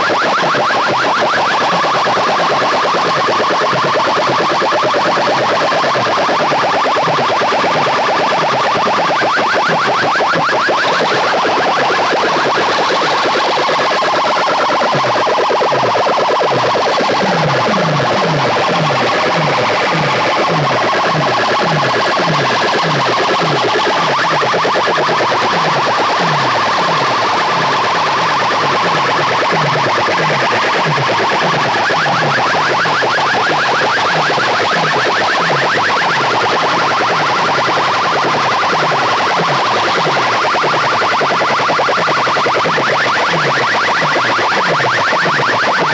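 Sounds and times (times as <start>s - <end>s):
dance music from large speakers: 0.2s - 45.9s.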